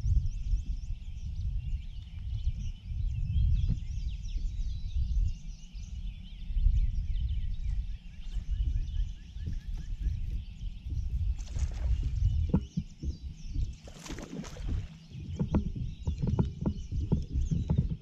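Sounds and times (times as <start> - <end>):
low rumble: 0.0 - 18.0
small birds chirping and singing: 0.0 - 18.0.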